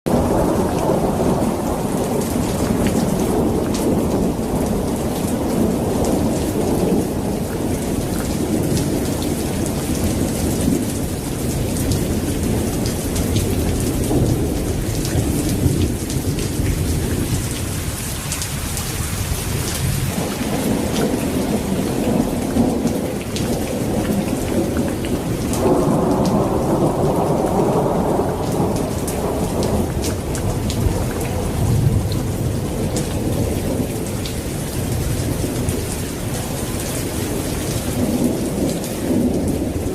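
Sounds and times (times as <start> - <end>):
heavy rain: 0.1 - 39.9.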